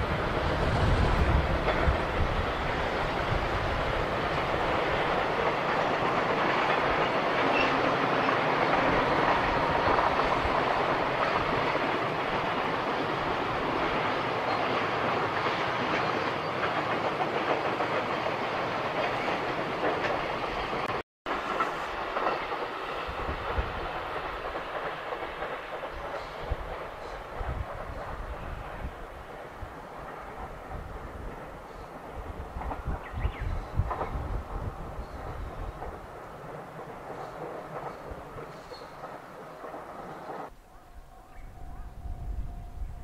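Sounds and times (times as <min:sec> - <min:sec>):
electric commuter train passing: 0:00.0 - 0:43.0
freight train wheels rumbling on rail: 0:00.0 - 0:43.0.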